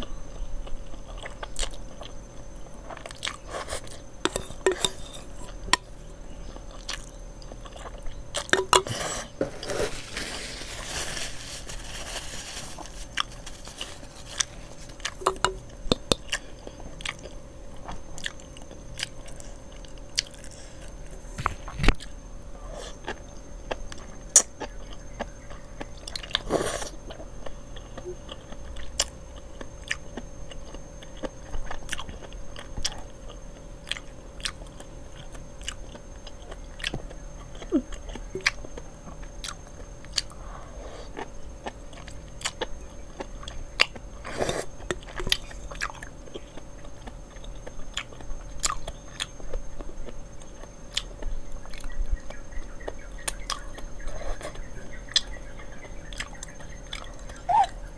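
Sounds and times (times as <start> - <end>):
faint steady hum: 0.0 - 57.9
chewing and smacking: 0.6 - 8.9, 12.8 - 22.2, 22.9 - 40.4, 41.1 - 57.4.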